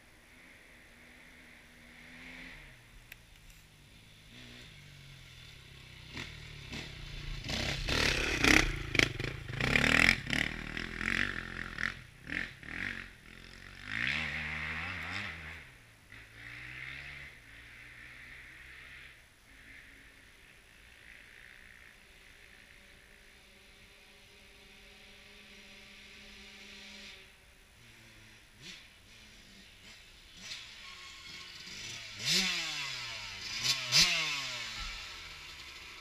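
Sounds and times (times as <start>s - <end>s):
dirt bike engine revving: 0.3s - 3.0s, 3.8s - 36.0s.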